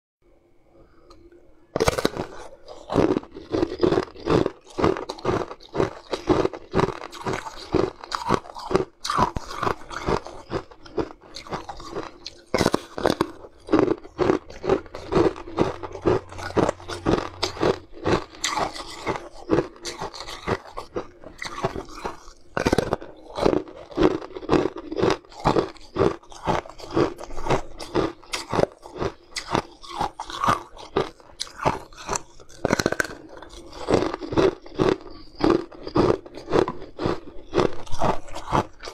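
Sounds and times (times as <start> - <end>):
crunching hard treat: 1.8 - 38.9.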